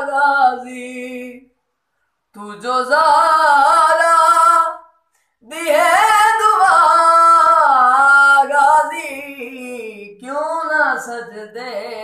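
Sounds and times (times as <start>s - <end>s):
young man singing unaccompanied: 0.0s - 1.6s, 2.3s - 12.0s.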